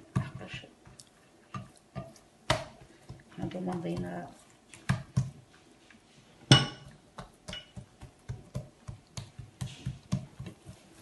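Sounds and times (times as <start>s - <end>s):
hands patting dough: 0.0s - 11.0s.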